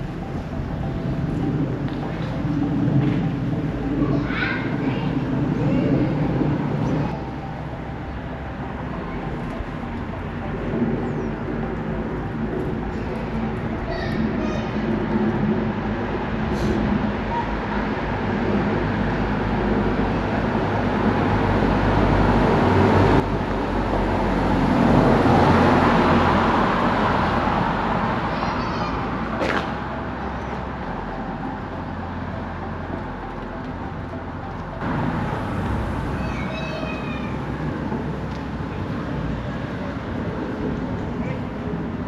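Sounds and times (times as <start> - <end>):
low traffic hum: 0.0 - 42.0
vehicle passing: 0.0 - 42.0.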